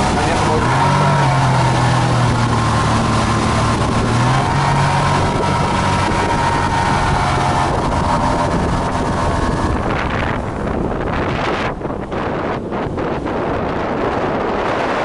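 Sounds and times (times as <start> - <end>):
outboard motor hum: 0.0 - 15.0
water rushing: 0.0 - 15.0
wind: 0.0 - 15.0.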